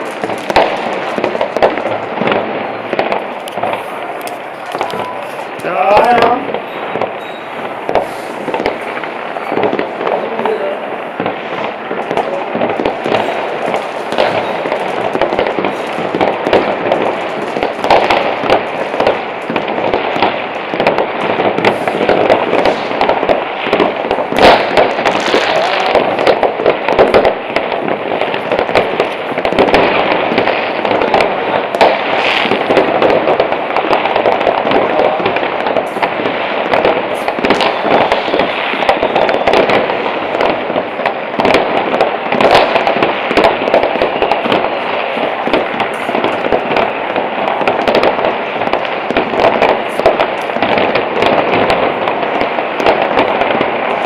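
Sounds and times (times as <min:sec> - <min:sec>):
firecrackers crackling: 0:00.0 - 0:54.0
fireworks bangs: 0:00.0 - 0:54.0.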